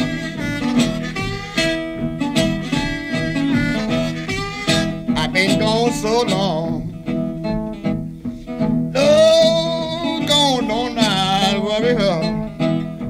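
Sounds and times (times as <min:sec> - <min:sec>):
bending harmonica note: 0:00.0 - 0:12.9
picked blues guitar: 0:00.0 - 0:13.0.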